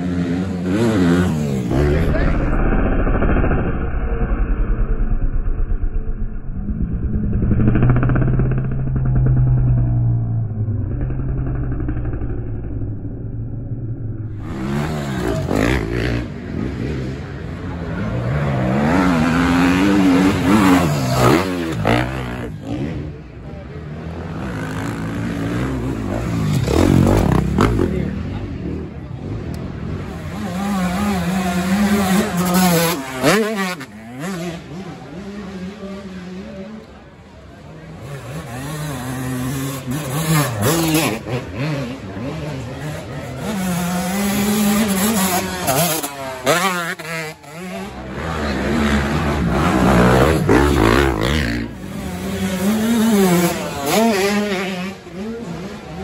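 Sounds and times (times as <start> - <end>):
dirt bike engine revving: 0.0 - 4.8, 6.0 - 56.0.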